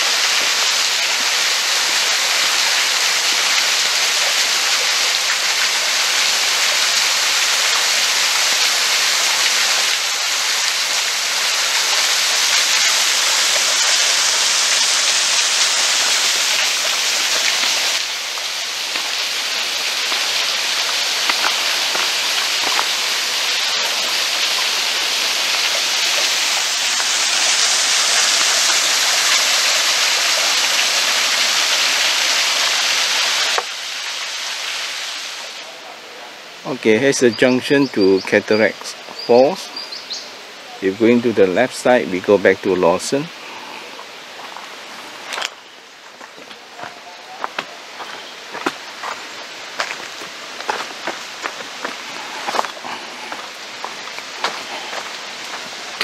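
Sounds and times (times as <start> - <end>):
water splashing over rocks: 0.0 - 35.7, 43.9 - 56.0.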